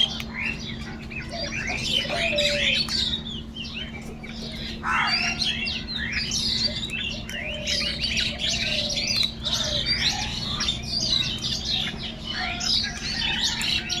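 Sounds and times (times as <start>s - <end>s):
flock of birds chirping: 0.0s - 14.0s.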